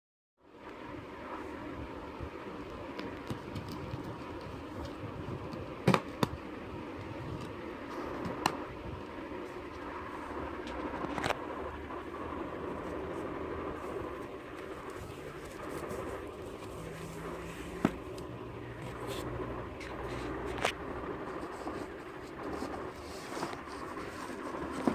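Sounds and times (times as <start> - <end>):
steady background hum: 0.4 - 24.9.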